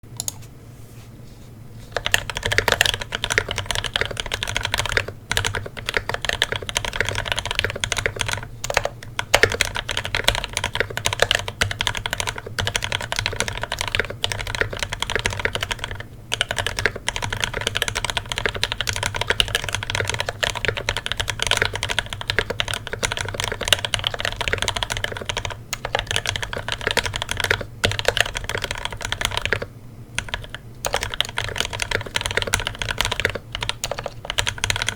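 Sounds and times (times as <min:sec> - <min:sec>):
mechanical keyboard typing: 0:00.2 - 0:00.4, 0:02.0 - 0:34.9.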